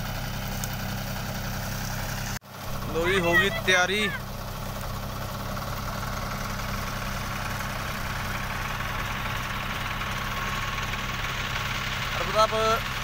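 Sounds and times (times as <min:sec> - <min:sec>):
diesel tractor engines idling: 0:00.0 - 0:13.0.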